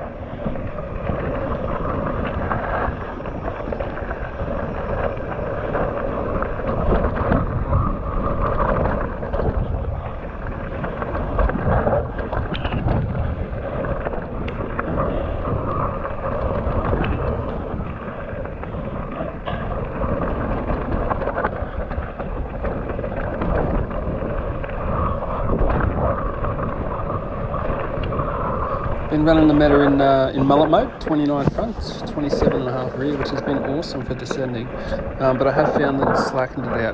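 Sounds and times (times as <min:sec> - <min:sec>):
rumble of bike tyres: 0:00.0 - 0:36.9
wind buffeting microphone: 0:00.0 - 0:36.9.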